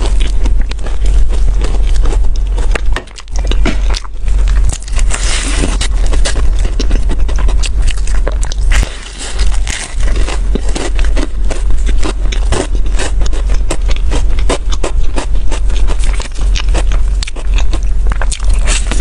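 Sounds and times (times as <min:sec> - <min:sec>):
steady low hum: 0:00.0 - 0:19.0
wet chewing of bread: 0:00.0 - 0:19.0.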